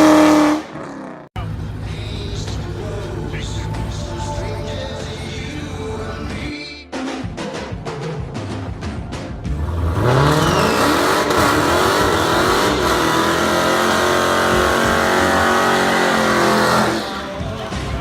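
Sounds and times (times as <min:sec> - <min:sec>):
car engine revving: 0:00.0 - 0:06.5, 0:09.4 - 0:18.0.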